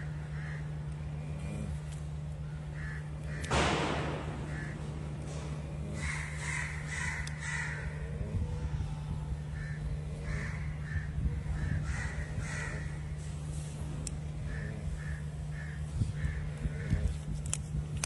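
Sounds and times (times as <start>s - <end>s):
birds calling: 0.0s - 17.4s
steady low hum: 0.0s - 18.0s.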